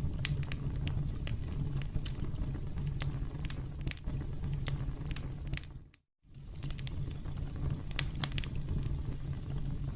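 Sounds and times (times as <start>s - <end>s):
campfire crackling: 0.0s - 9.8s.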